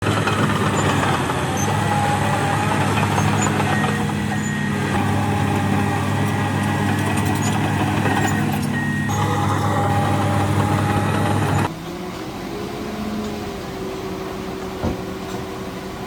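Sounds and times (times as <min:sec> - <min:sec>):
diesel machinery engine: 0:00.0 - 0:16.0.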